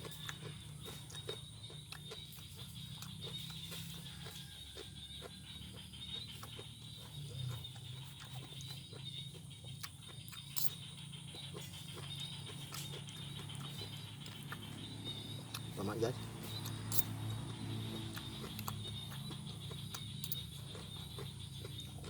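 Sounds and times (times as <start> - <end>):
chewing crisp vegetables: 0.0 - 22.0
steady low hum: 0.0 - 22.0.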